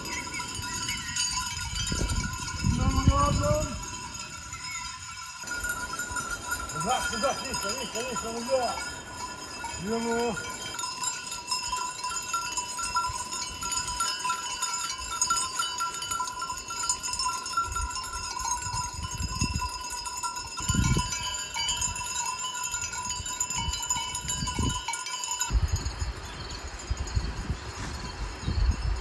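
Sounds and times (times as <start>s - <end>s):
sheep bells ringing: 0.0s - 29.0s.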